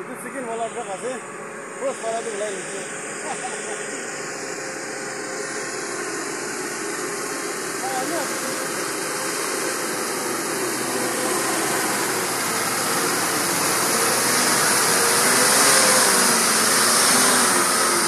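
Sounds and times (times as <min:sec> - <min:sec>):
diesel truck engine driving through mud: 0:00.0 - 0:18.0.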